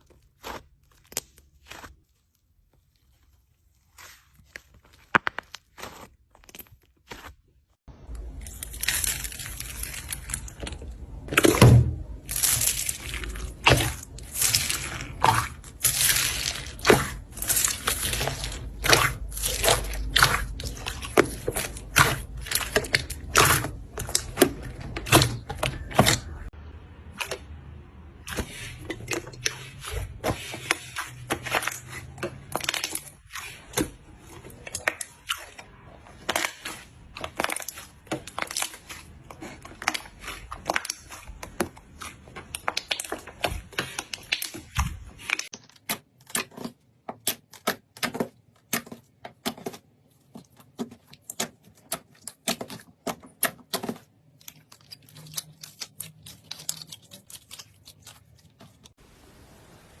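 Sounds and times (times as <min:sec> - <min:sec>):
crisp clicks and crackles: 0:00.0 - 0:26.5, 0:28.2 - 0:59.0.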